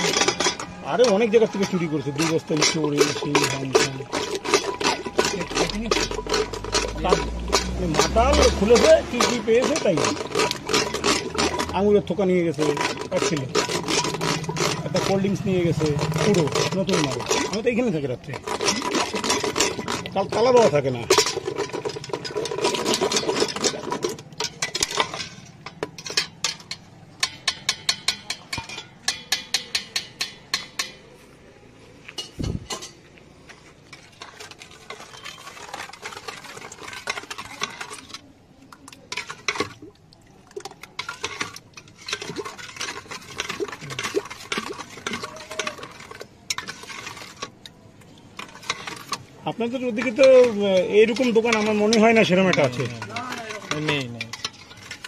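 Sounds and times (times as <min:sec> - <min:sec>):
ladles clinking in metal pot: 0:00.0 - 0:31.2, 0:32.1 - 0:33.1, 0:33.9 - 0:55.0
stirring and scraping: 0:00.0 - 0:55.0.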